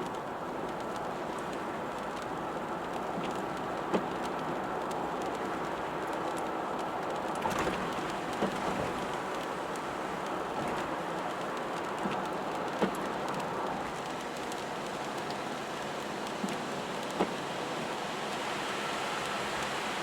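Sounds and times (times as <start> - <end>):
raindrop ticks: 0.0 - 18.5
car driving in rain: 0.0 - 20.0
steady rain: 0.0 - 20.0.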